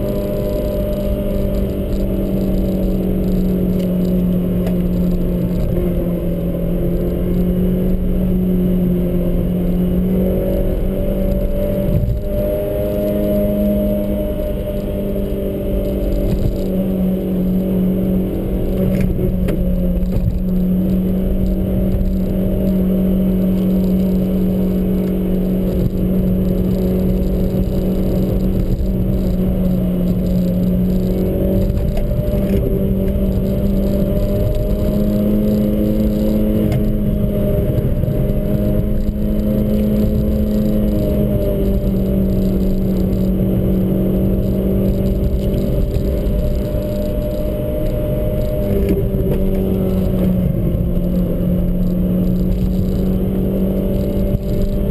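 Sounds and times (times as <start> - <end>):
car engine running while driving: 0.0 - 54.9.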